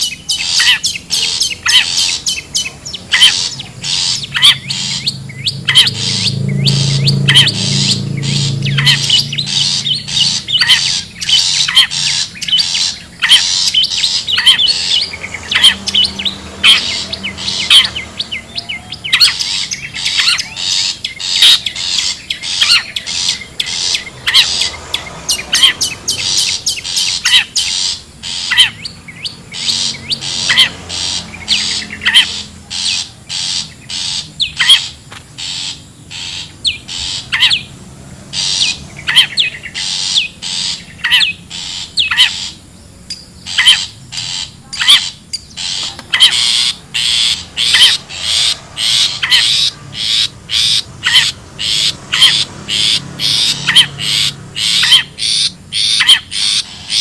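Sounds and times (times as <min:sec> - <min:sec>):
bird harsh chattering calls: 0:00.0 - 0:57.0.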